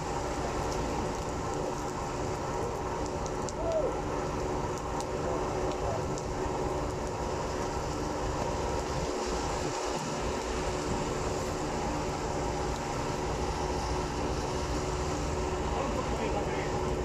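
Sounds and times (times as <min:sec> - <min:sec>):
rain on wet street: 0:00.0 - 0:17.0.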